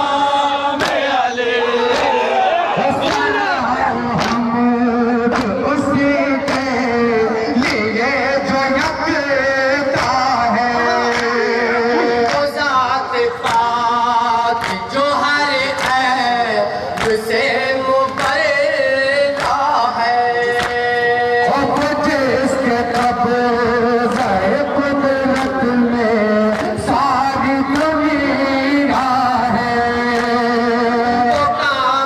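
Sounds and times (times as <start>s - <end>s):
men chanting into microphones: 0.0s - 32.0s.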